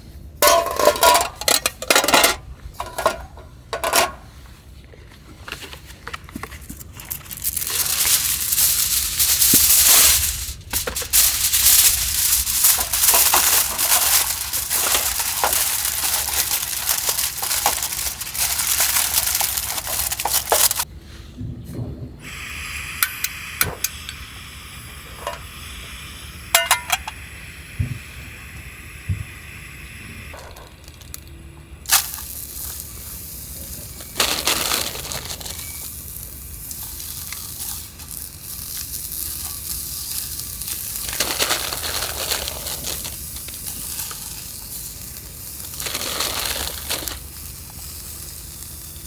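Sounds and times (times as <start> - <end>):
food sizzling over fire: 6.6 - 20.9, 22.3 - 31.3, 31.9 - 49.0.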